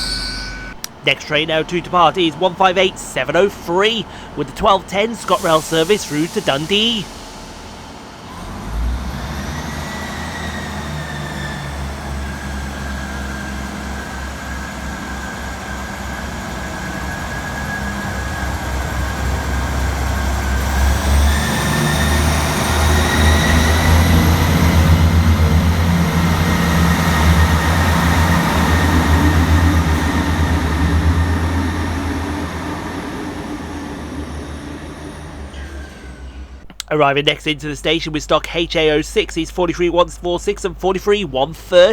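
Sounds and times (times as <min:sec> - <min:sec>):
diesel train engine throb: 0:00.0 - 0:41.9
rising train whine: 0:00.0 - 0:41.9.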